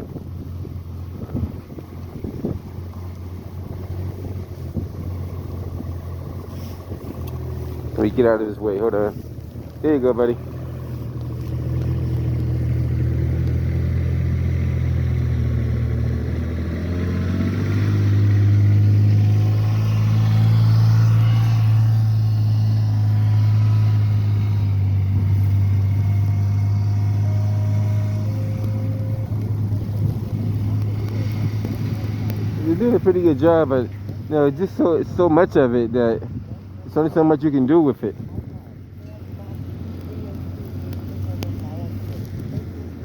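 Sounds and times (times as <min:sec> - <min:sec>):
heavy vehicle engine revving: 0:00.0 - 0:43.0.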